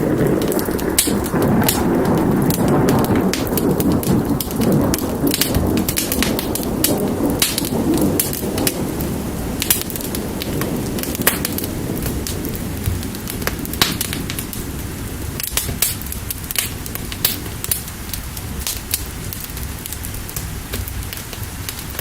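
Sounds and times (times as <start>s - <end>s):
fire crackling and popping: 0.0s - 22.0s
low rumble of thunder: 0.0s - 22.0s
steady rain: 0.0s - 22.0s.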